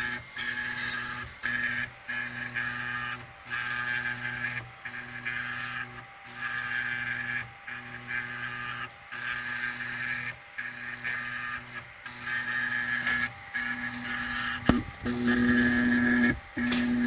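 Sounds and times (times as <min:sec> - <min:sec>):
stepper motors whining: 0:00.0 - 0:17.0.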